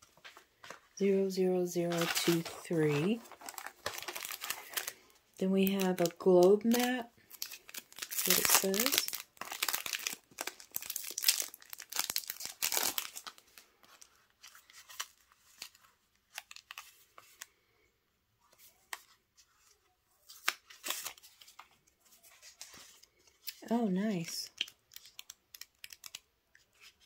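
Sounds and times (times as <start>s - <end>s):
cellophane crinkling and tearing: 1.8s - 17.6s, 20.2s - 27.0s.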